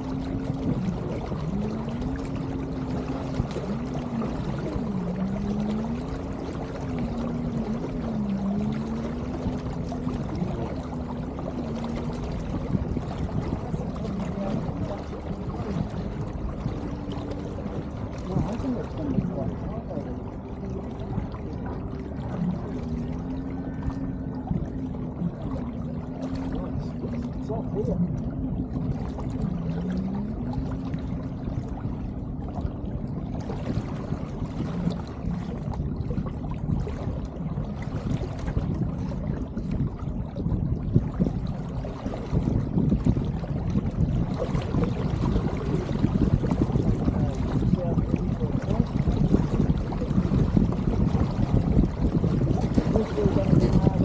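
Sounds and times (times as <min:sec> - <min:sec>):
faint low wavering hum: 0:00.0 - 0:54.0
low rumble: 0:00.0 - 0:54.0
water washing along boat hull: 0:00.0 - 0:54.0.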